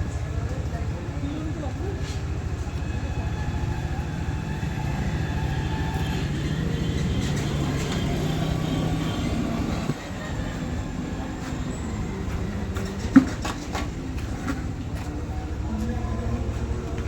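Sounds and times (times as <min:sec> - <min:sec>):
motor running with pulsing hum: 0:00.0 - 0:17.0.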